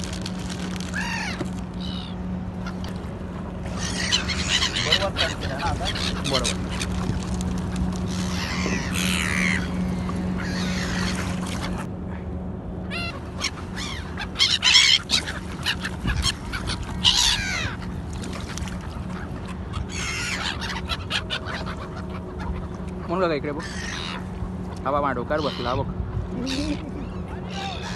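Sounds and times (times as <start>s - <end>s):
gulls squawking: 0.0s - 11.9s, 12.8s - 27.9s.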